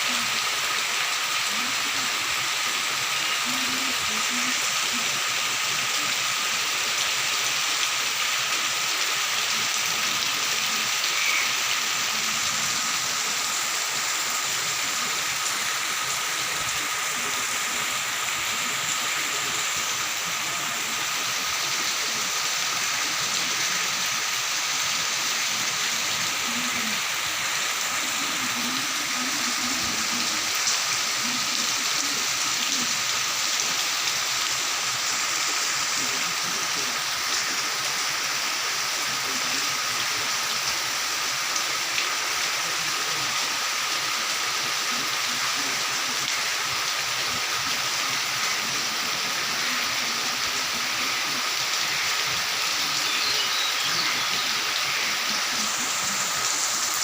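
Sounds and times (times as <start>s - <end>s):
rain falling in forest: 0.0s - 57.0s.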